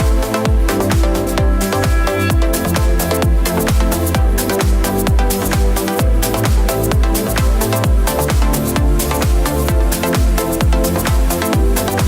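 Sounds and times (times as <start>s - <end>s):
held synth chords: 0.0s - 12.0s
kick drum: 0.0s - 12.0s.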